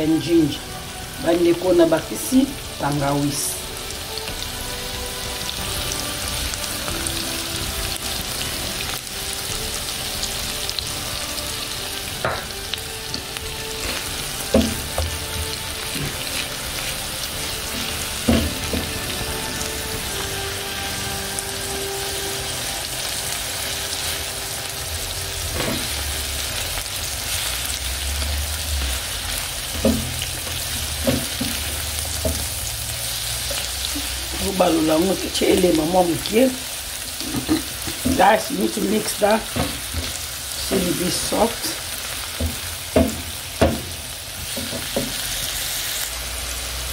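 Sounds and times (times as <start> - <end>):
vegetables sizzling in oil: 0.0 - 46.9.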